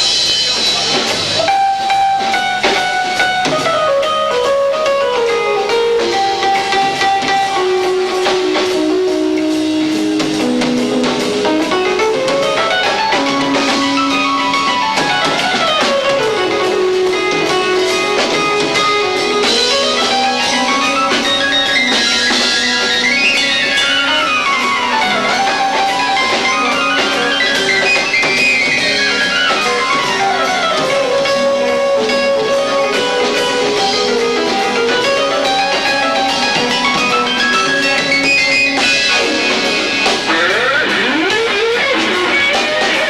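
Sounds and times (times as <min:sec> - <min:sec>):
drums: 0:00.0 - 0:43.0
live rock band playing: 0:00.0 - 0:43.0.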